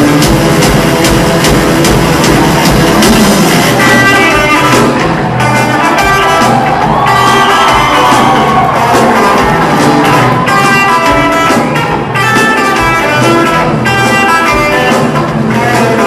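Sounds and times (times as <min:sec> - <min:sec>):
distorted electric guitar: 0:00.0 - 0:16.0
live rock band playing: 0:00.0 - 0:16.0.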